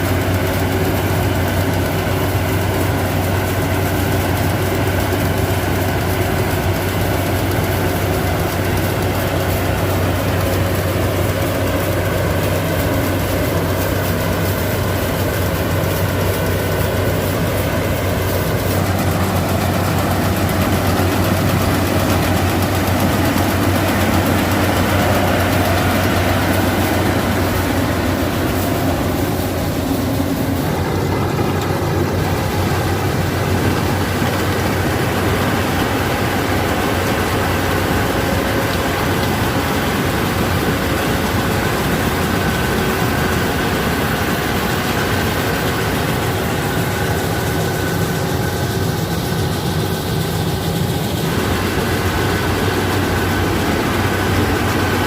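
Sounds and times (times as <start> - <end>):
combine harvester engine hum: 0.0 - 55.0
machinery mechanical rush: 0.0 - 55.0.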